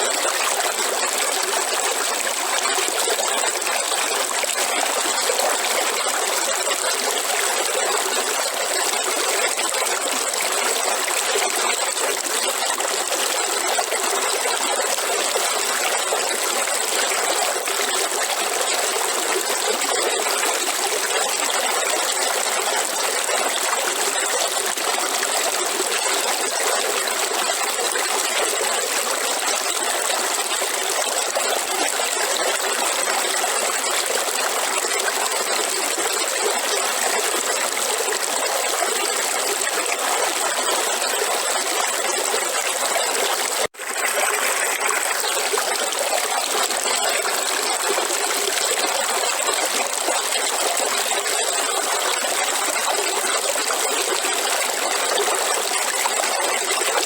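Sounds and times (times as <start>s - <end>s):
river water flowing: 0.0s - 32.4s, 34.5s - 57.0s.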